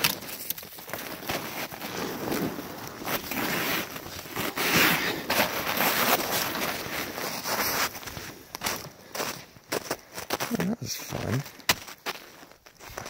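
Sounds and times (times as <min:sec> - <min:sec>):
boots crunching on gravel: 0:01.0 - 0:13.0.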